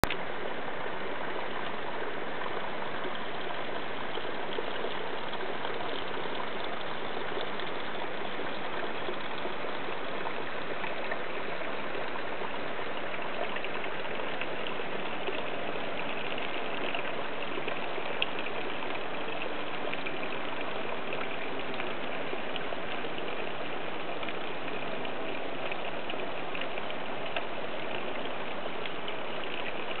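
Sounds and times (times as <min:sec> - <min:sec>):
running water: 0:00.0 - 0:30.0.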